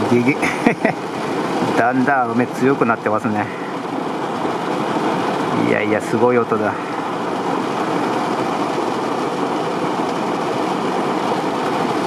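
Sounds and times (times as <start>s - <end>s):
heavy rain drumming on car roof: 0.0s - 12.0s.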